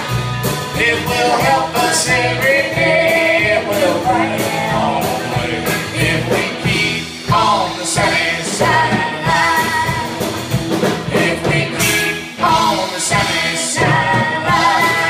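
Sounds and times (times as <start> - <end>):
live country band: 0.0 - 15.0
woman singing: 0.8 - 6.7, 7.3 - 10.4, 11.1 - 15.0.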